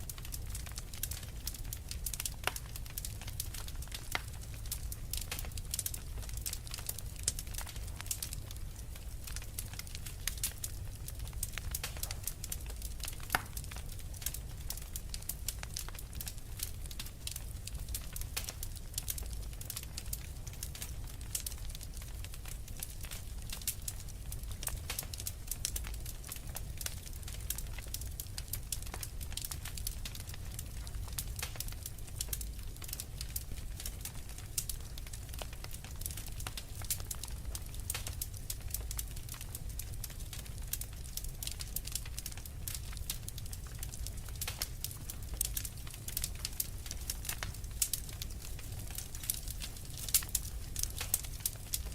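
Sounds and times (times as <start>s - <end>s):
fire rumbling: 0.0s - 51.9s
logs crackling and popping: 0.0s - 51.9s.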